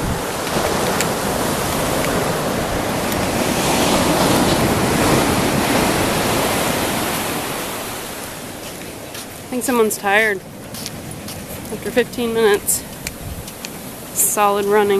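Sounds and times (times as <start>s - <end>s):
ocean waves breaking: 0.0s - 14.9s
wind buffeting microphone: 0.0s - 14.9s.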